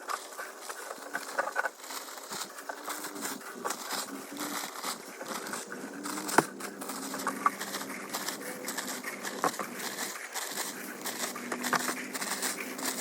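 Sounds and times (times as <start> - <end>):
crunching of sleet and ice crust: 0.0 - 13.0.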